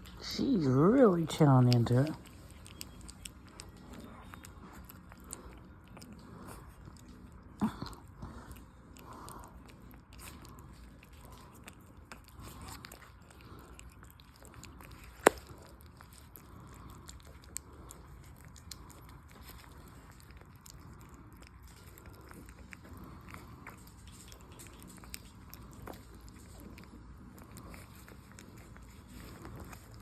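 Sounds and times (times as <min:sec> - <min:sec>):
puppy chewing and smacking: 0:00.0 - 0:30.0.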